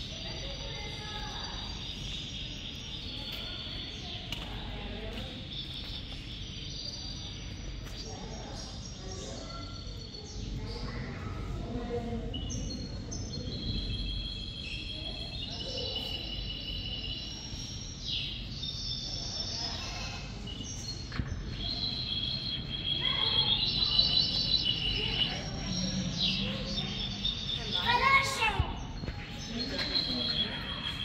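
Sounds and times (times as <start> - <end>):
birds chirping and singing: 0.0 - 31.0.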